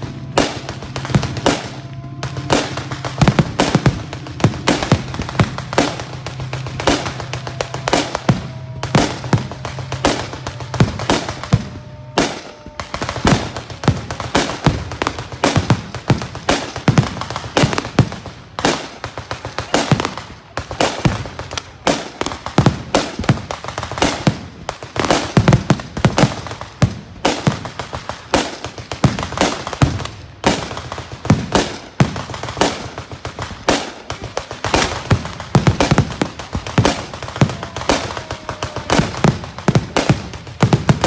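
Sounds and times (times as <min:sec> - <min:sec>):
barrage of sharp bangs: 0:00.0 - 0:41.0.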